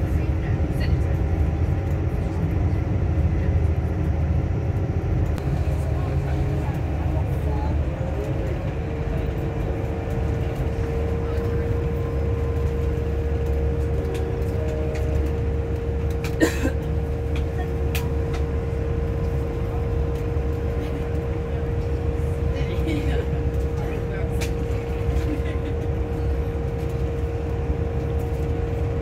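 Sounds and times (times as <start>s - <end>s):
diesel train engines idling: 0.0s - 29.0s.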